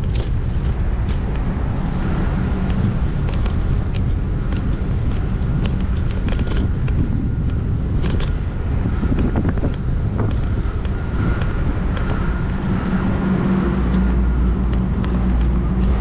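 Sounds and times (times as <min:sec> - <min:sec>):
bicycle clicks and rattles: 0:00.0 - 0:13.0
road noise: 0:00.0 - 0:16.0
wind rumbling on microphone: 0:00.0 - 0:16.0.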